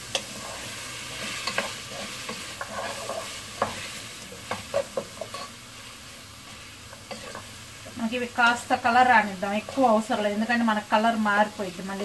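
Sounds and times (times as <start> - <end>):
spatula scraping a pan: 0.0 - 10.4
onions sizzling in a pan: 0.0 - 12.0.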